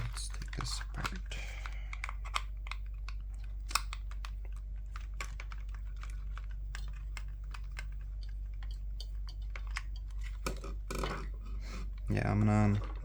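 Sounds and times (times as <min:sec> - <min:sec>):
plastic parts clicking and tapping: 0:00.0 - 0:13.0
steady low hum: 0:00.0 - 0:13.0.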